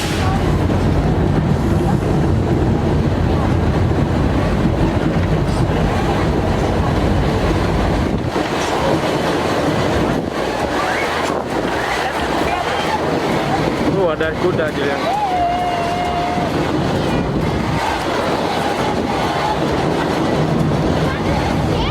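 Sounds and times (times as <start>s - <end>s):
train wheels rumbling on track: 0.0s - 21.9s.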